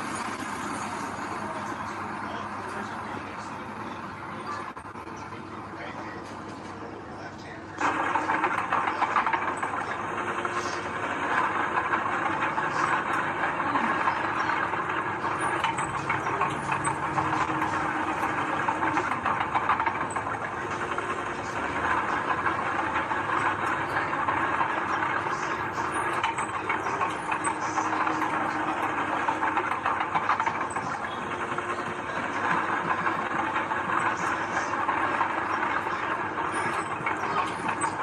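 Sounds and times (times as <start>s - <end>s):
diesel engine running: 0.0s - 38.0s
metallic track clatter: 0.0s - 38.0s.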